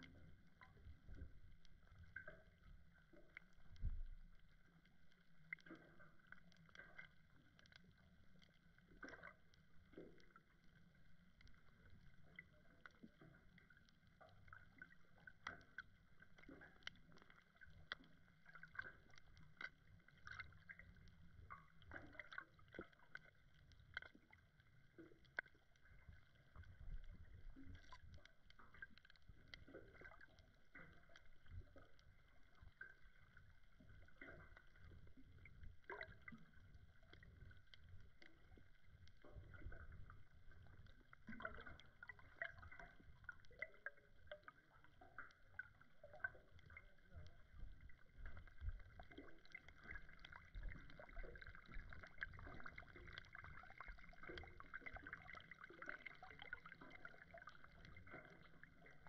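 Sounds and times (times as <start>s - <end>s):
muffled underwater rumble: 0.0s - 59.0s
small irregular clicks: 0.0s - 59.0s.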